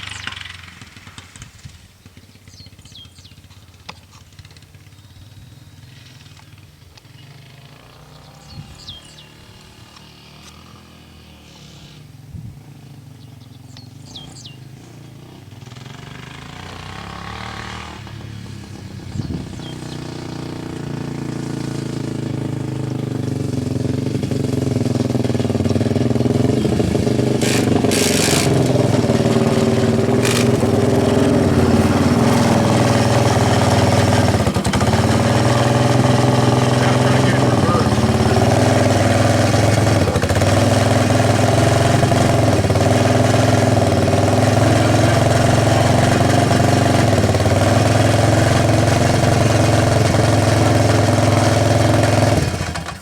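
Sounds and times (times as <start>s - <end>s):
quad bike engine approaching: 0.0s - 53.0s.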